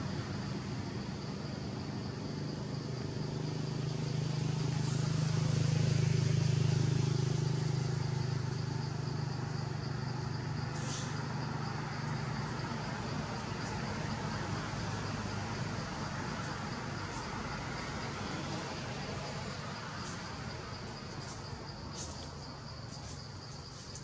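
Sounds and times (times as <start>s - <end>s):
low motor engine hum: 0.0s - 24.0s.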